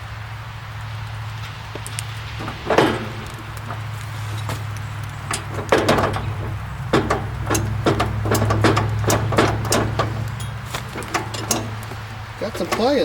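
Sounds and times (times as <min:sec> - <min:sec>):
wrench clanking on metal bolts: 0:01.8 - 0:13.0.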